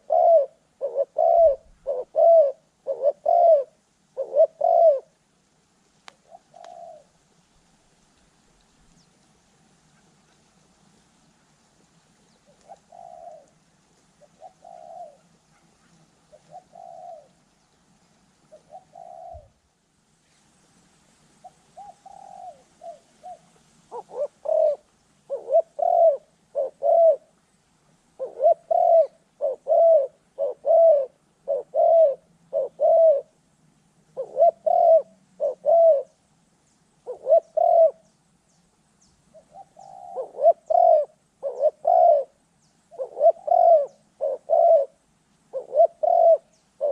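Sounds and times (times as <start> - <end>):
doves cooing: 0.0 - 5.2, 6.1 - 7.3, 8.8 - 19.7, 21.4 - 27.4, 28.1 - 33.4, 34.1 - 36.2, 37.0 - 38.1, 39.3 - 46.9.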